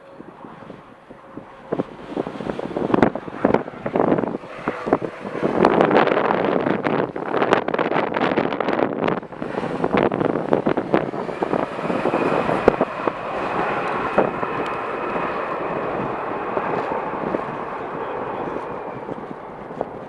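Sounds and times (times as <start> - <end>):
jet engines rushing and whining: 0.0 - 20.0
wind buffeting microphone: 0.0 - 20.0.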